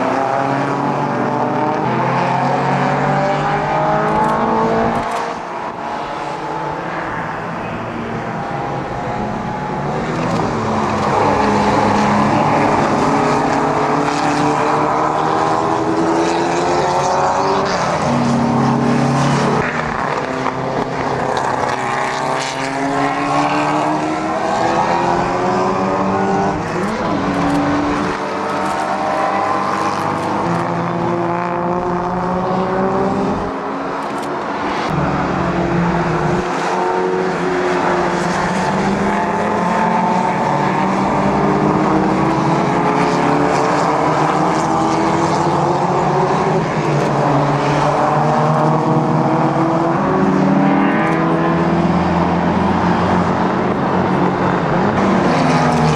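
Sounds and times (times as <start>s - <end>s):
racing car engines accelerating: 0.0s - 55.9s.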